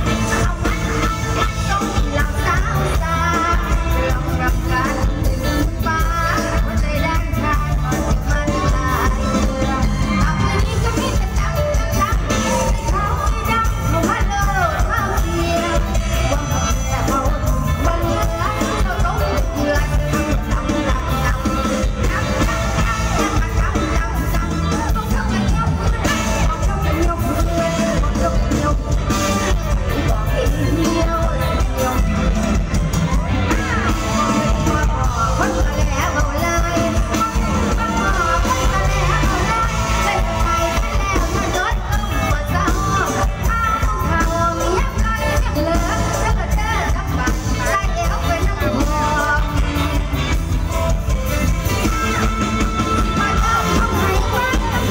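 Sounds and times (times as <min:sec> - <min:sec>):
crowd noise: 0:00.0 - 0:54.9
live band music with beat: 0:00.0 - 0:54.9
person singing: 0:00.0 - 0:54.9.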